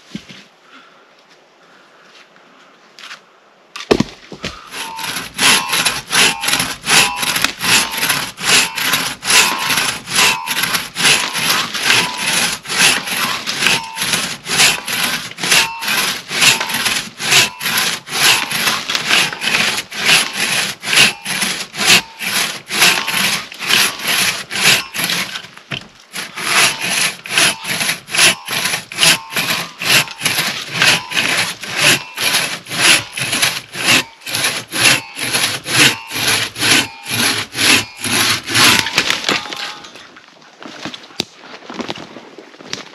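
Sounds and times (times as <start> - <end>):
hand saw cutting log: 3.9 - 39.9.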